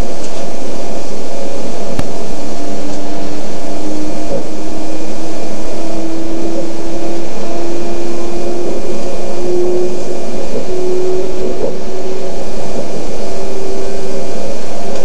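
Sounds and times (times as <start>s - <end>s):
motor whine rising in pitch: 0.0s - 15.0s
train running noise: 0.0s - 15.0s.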